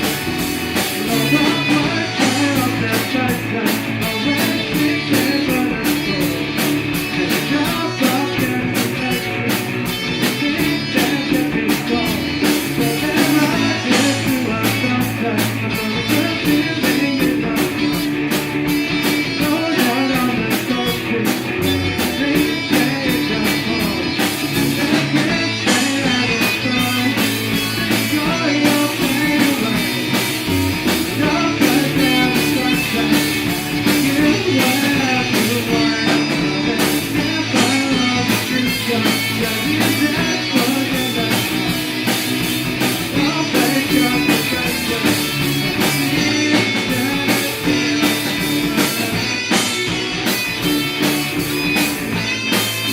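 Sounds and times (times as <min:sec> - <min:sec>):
drum kit steady beat: 0:00.0 - 0:52.9
guitar: 0:00.0 - 0:52.9.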